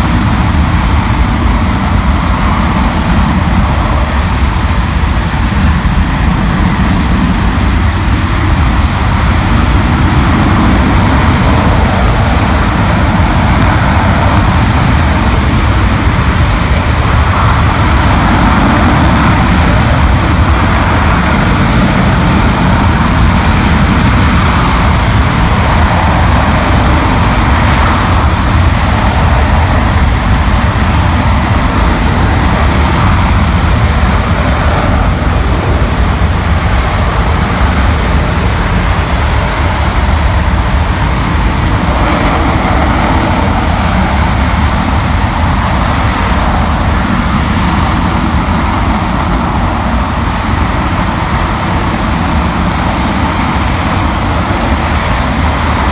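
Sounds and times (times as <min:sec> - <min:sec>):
rocket engine roaring: 0:00.0 - 0:55.9.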